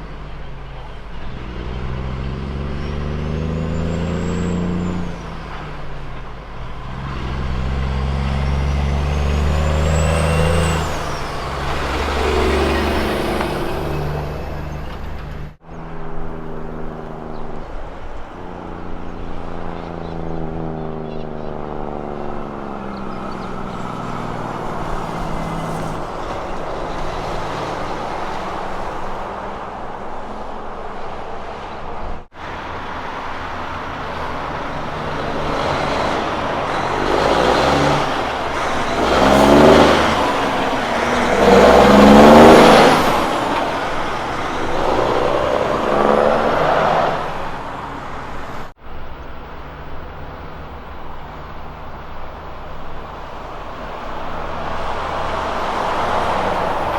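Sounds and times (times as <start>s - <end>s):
heavy trucks driving past: 0.0s - 56.9s.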